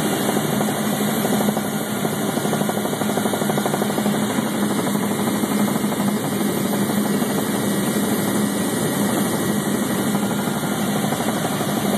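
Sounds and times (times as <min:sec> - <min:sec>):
light aircraft engine droning: 0:00.0 - 0:11.9.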